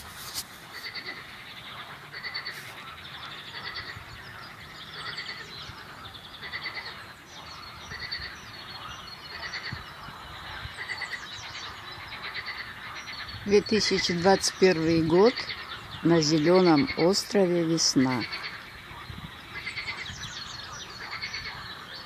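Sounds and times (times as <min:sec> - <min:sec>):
birds chirping: 0:00.0 - 0:22.0
frogs croaking: 0:00.6 - 0:22.0.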